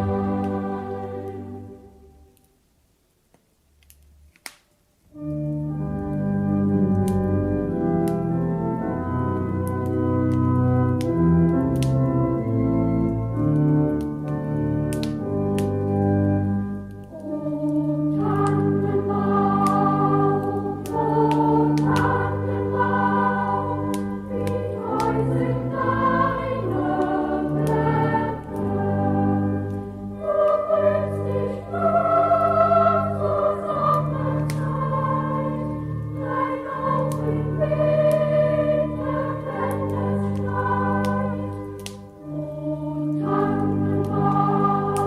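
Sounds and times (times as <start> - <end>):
choir singing sustained notes: 0.0 - 2.5, 5.1 - 45.0
faint sharp crackles: 0.0 - 8.4, 9.3 - 45.0
organ accompaniment: 5.2 - 45.0.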